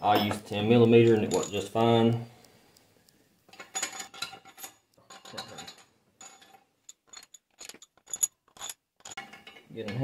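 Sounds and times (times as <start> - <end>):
metal bolts clinking: 0.0 - 1.8, 3.5 - 10.0.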